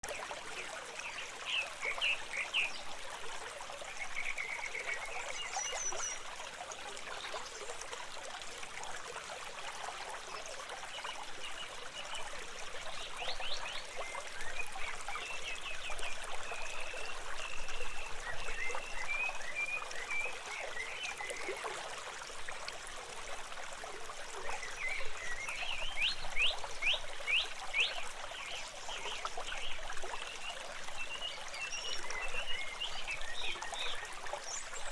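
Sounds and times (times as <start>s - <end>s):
stream water trickling: 0.0s - 34.9s.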